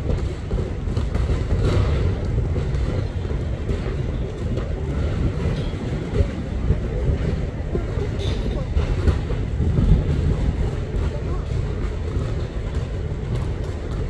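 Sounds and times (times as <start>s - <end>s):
train rumbling on tracks: 0.0s - 14.0s.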